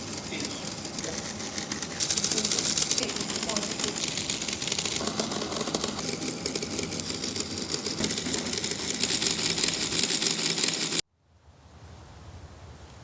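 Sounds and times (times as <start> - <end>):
model engine rattling: 0.0 - 11.0.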